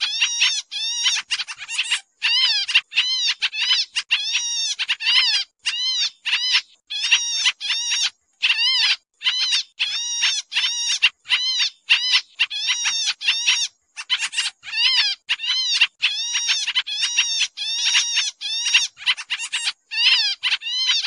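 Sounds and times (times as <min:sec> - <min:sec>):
bird calling rapidly: 0:00.0 - 0:21.0.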